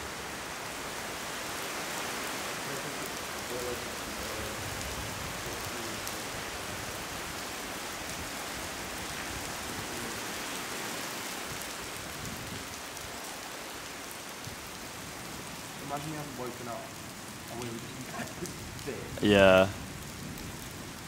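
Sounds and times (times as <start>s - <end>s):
rain on concrete and foliage: 0.0s - 21.0s.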